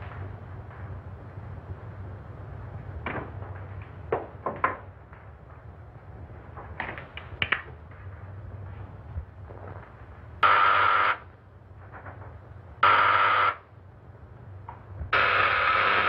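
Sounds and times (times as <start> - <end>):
film soundtrack hum and hiss: 0.0 - 16.0.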